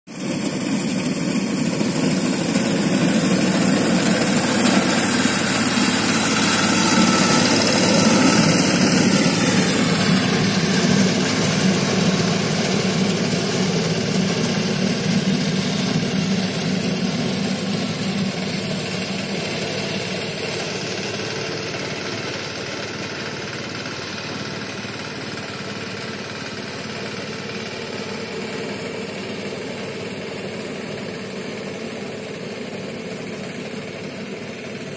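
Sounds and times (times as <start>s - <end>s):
riding reaper engine running: 0.1s - 34.9s.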